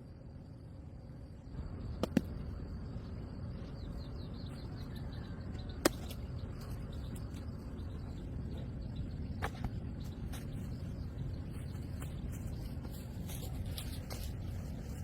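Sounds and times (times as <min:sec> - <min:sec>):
small bird chirping: 0:01.8 - 0:15.0.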